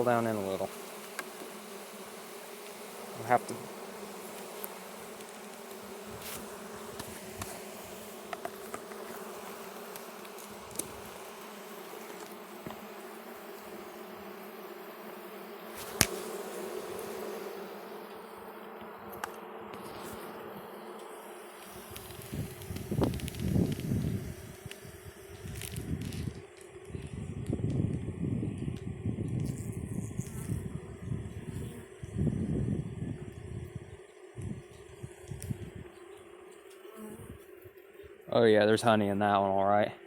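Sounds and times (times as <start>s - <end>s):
bees humming: 0.0s - 39.4s.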